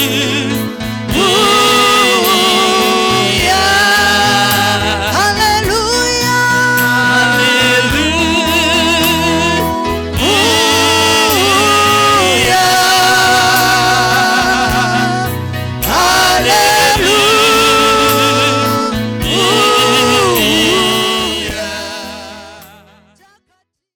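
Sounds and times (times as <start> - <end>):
steady bass line: 0.0 - 22.9
gospel singing voice: 0.0 - 23.4.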